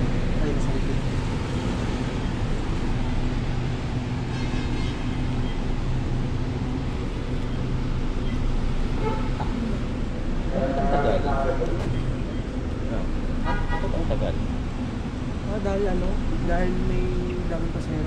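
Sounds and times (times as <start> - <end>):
train car equipment humming: 0.0 - 18.0.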